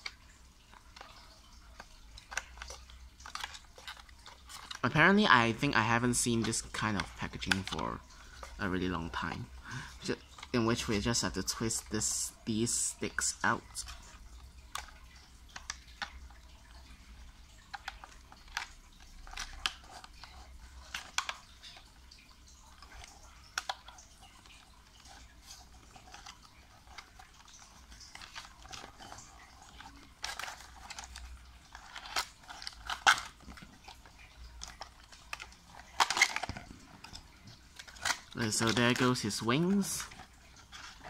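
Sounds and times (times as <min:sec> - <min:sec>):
cardboard packaging crinkling: 0:00.0 - 0:10.9, 0:17.5 - 0:41.0.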